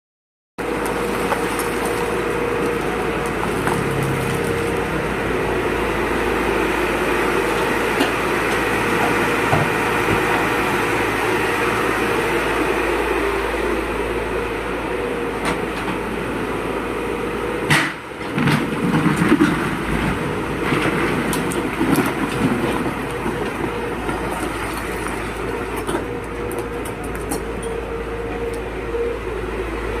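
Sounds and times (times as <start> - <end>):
excavator diesel engine running: 0.6 - 30.0.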